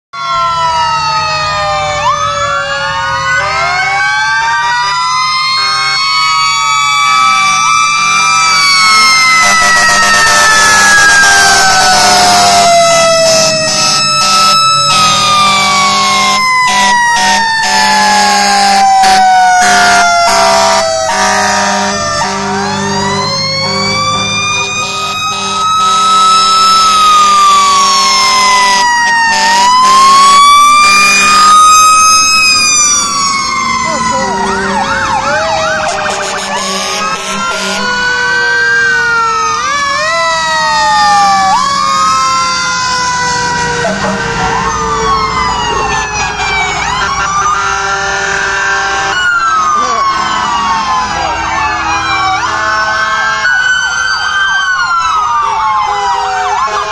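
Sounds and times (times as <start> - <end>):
fire engine sirens wailing: 0.1 - 56.9.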